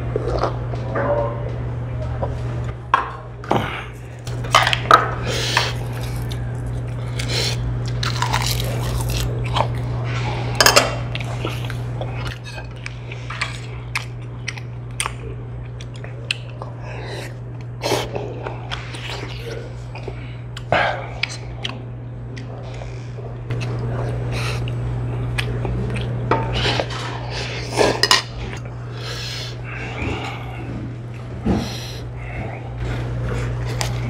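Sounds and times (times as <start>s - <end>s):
steady low hum: 0.0s - 34.0s
chewing and biting food: 0.1s - 0.7s, 4.3s - 34.0s.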